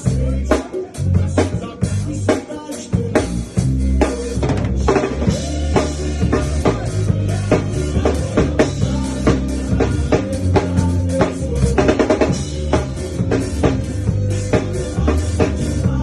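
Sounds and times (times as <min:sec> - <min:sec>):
bass line: 0:00.0 - 0:16.0
funk drum kit groove: 0:00.0 - 0:16.0.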